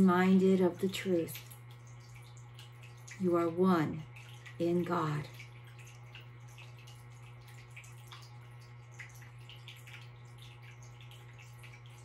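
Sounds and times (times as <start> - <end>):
fountain water trickling and dripping: 0.0 - 12.0
steady low hum: 0.0 - 12.0.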